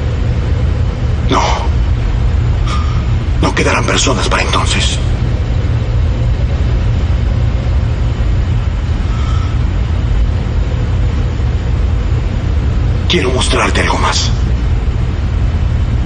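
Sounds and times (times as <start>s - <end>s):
low rumbling spaceship drone: 0.0s - 16.0s.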